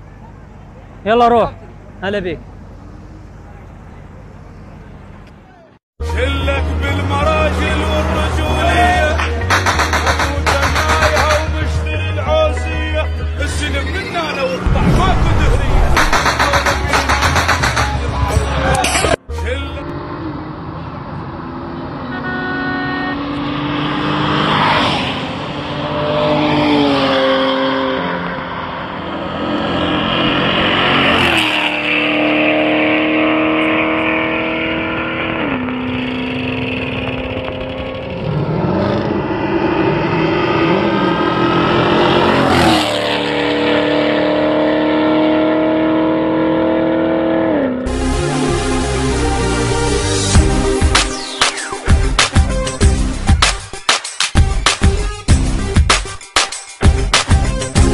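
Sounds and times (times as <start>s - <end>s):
race car engines at full throttle: 0.0s - 53.6s.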